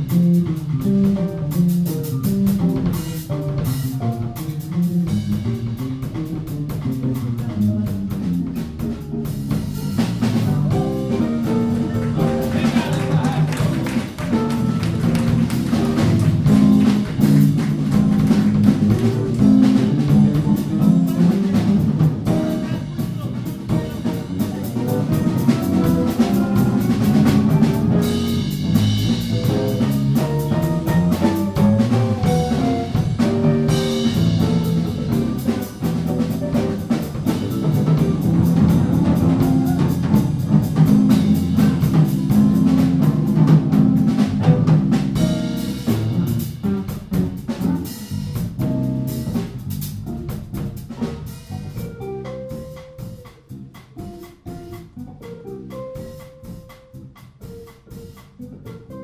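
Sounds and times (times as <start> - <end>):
cymbal-led drum rhythm: 0.0 - 59.0
electric bass line: 0.0 - 59.0.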